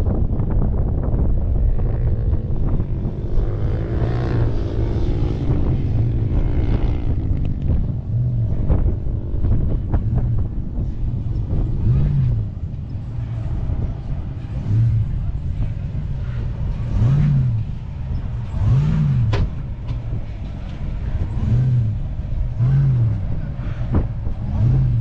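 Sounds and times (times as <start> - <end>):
wind buffeting microphone: 0.0 - 25.0
truck engine running: 0.1 - 25.0.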